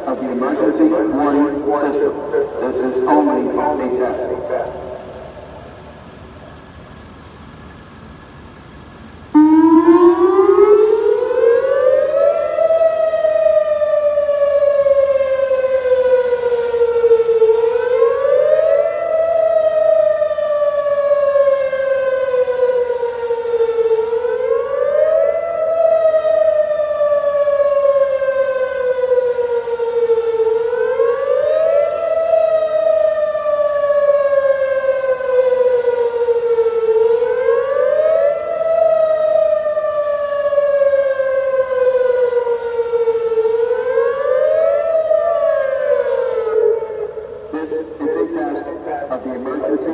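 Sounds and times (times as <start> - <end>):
warning siren wailing: 0.0 - 49.9.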